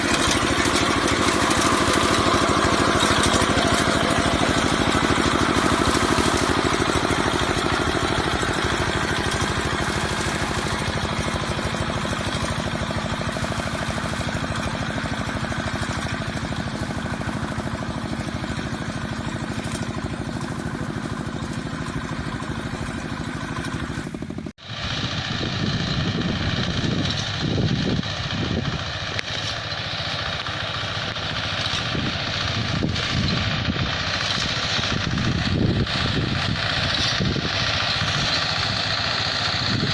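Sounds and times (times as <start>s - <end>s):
small engine running under load: 0.0s - 39.9s.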